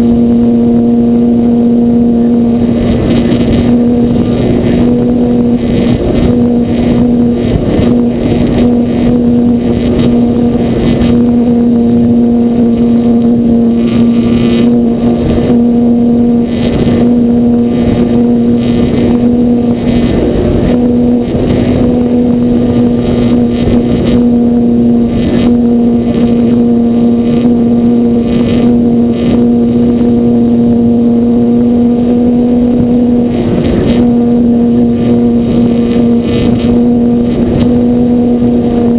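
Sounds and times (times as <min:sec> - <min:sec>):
electric motor and propeller whine: 0:00.0 - 0:38.9
wind buffeting microphone: 0:00.0 - 0:38.9.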